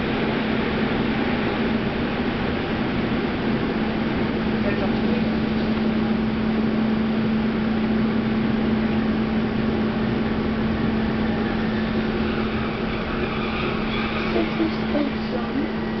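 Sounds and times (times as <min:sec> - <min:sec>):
constant low hum: 0:00.0 - 0:16.0
train wheels on track: 0:00.0 - 0:16.0.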